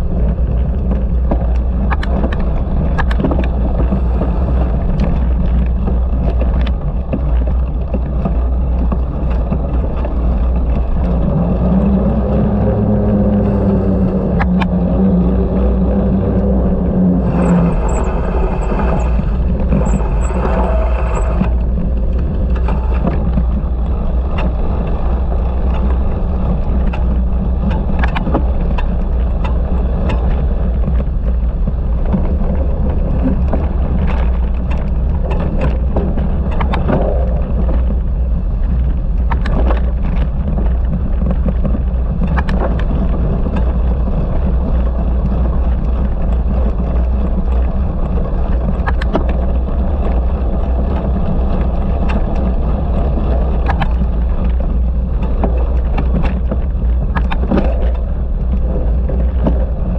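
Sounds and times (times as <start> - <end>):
bike clicks and rattles: 0.0 - 59.9
bike rumbling over rough ground: 0.0 - 59.9
wind on microphone: 0.0 - 59.9.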